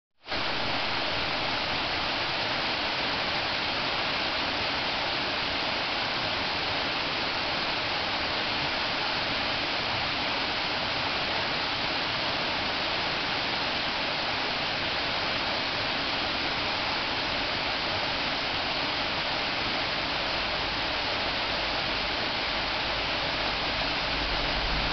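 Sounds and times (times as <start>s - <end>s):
waterfall rushing over rock: 0.3s - 24.9s.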